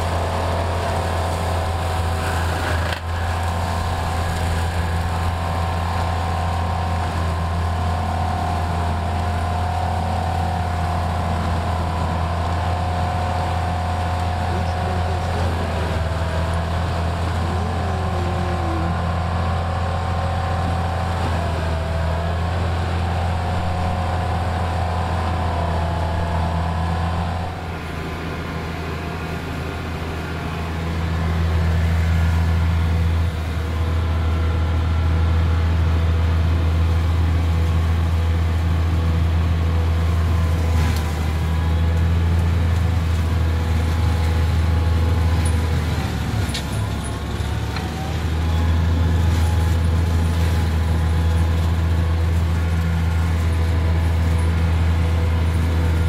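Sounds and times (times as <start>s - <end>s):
mulcher cutting brush: 0.0s - 56.0s
tractor engine under load: 0.0s - 56.0s.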